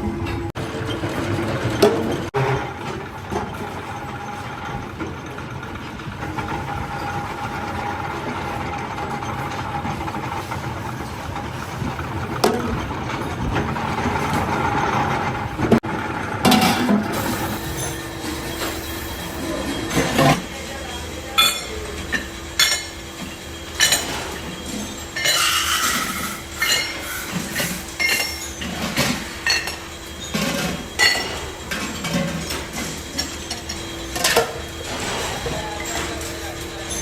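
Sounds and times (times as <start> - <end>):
machine hum: 0.0 - 37.0.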